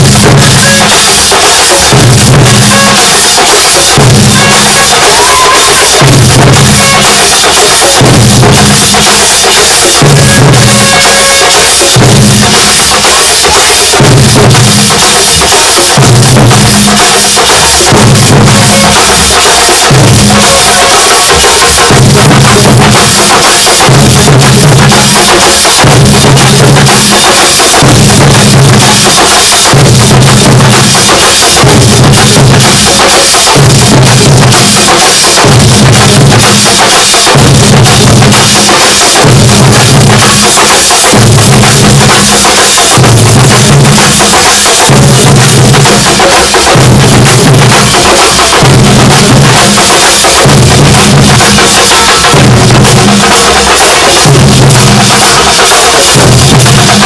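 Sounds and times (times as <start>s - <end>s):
percussion band drumming: 0.0s - 57.0s.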